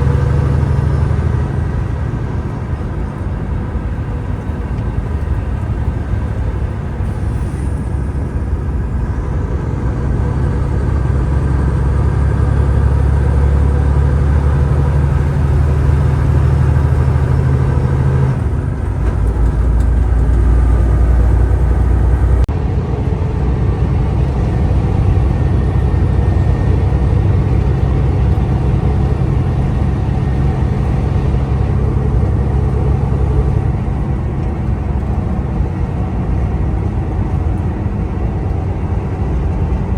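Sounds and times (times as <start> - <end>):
road noise: 0.0 - 39.9
truck diesel engine driving: 0.0 - 39.9.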